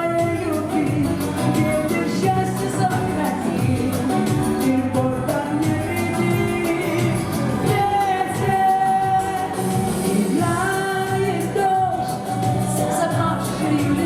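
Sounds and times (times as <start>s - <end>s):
pop song with sliding melody: 0.0s - 14.0s.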